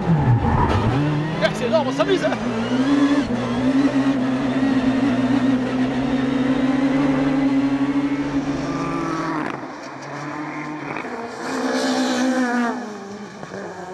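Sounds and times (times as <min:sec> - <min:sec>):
rally car engine revving hard: 0:00.0 - 0:13.9.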